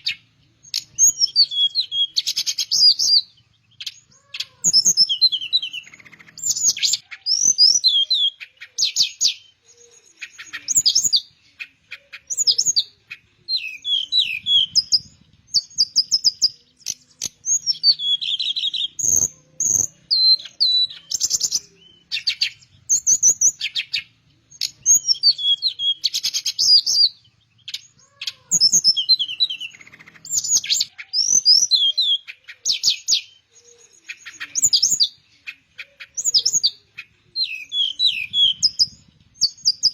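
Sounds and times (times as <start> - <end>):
bird whistles and trills: 0.0 - 39.9.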